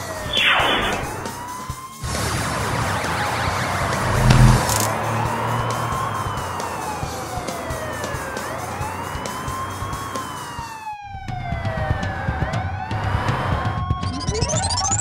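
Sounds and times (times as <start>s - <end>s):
cartoon ambulance siren wailing: 0.0s - 15.0s.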